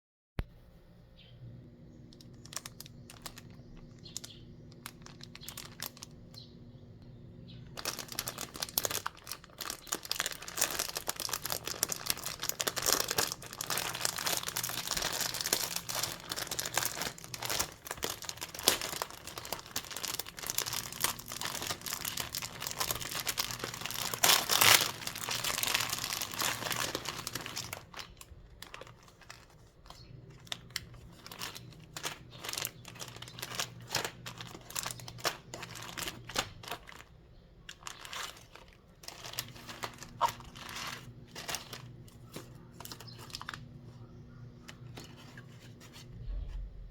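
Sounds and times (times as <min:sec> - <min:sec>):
cookie packaging crinkling: 0:02.0 - 0:06.6, 0:07.6 - 0:46.7.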